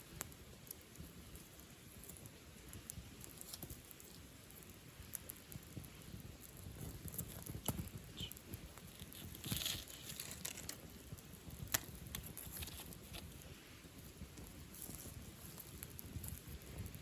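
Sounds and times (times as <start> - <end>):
burning wood popping: 0.0 - 17.0
campfire crackling: 0.0 - 17.0
fire hissing: 0.0 - 17.0.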